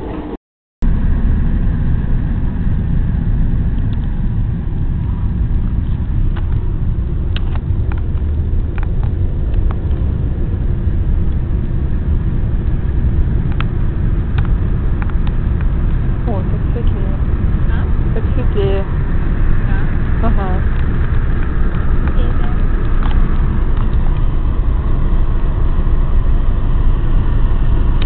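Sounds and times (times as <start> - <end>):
car cabin road and engine rumble: 0.0 - 28.0.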